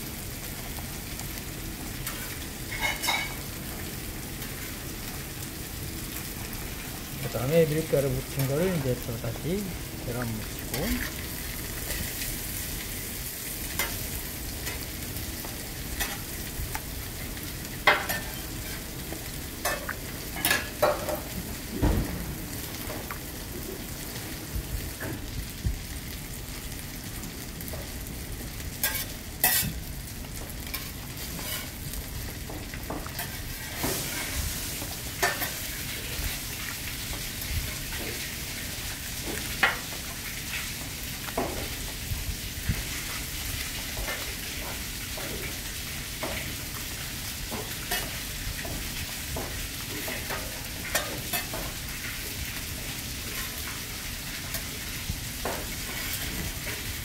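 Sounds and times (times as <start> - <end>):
sizzling hiss: 0.0 - 57.0.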